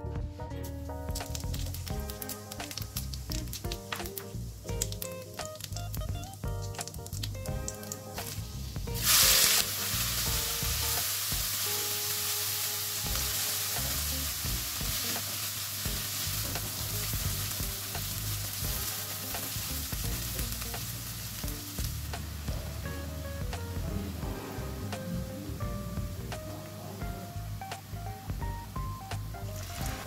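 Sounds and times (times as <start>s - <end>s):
onions sizzling in hot oil: 1.1s - 26.8s, 29.2s - 30.0s.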